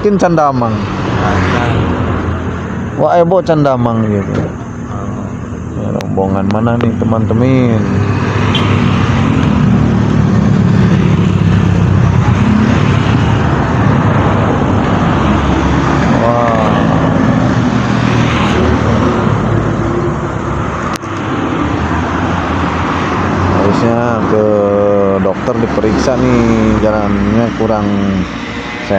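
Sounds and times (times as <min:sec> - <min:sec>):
bus engine rumbling: 0:00.0 - 0:28.9
traffic noise: 0:00.0 - 0:28.9.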